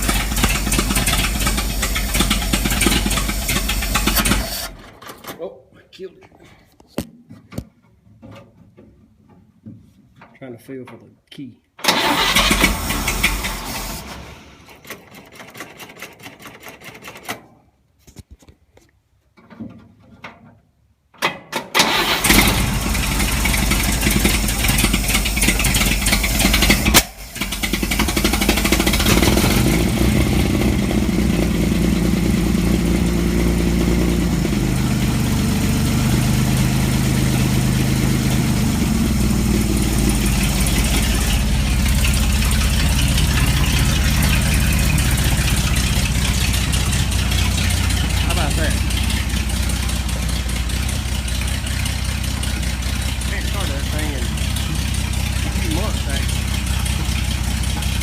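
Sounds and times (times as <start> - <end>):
engine starting and idling: 0.0 - 5.3, 11.8 - 17.4, 21.6 - 58.0.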